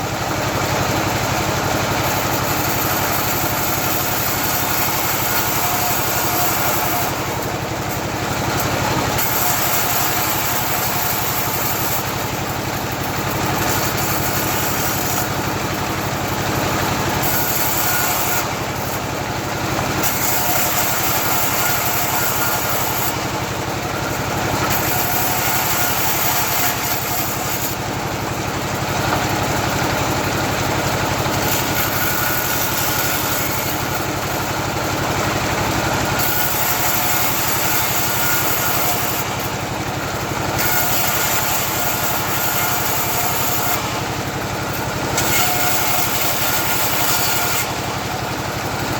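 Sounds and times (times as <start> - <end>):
bandsaw machine hum: 0.0 - 48.9.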